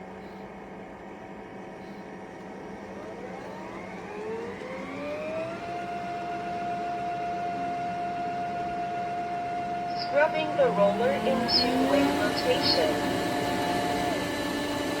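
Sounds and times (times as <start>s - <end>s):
vacuum motor whine: 0.0s - 15.0s.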